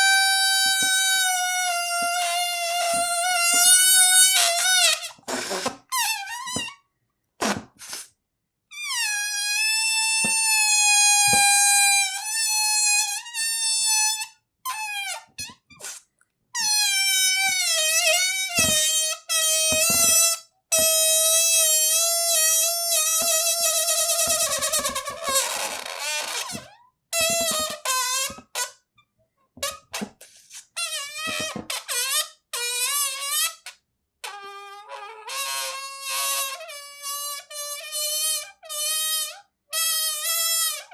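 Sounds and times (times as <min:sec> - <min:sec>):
rubber balloon squeaking: 0:00.0 - 0:08.1, 0:08.7 - 0:28.8, 0:29.6 - 0:40.9.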